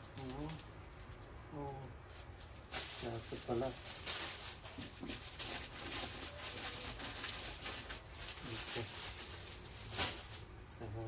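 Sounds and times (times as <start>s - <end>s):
plastic wrapping rustling: 0.0s - 11.0s.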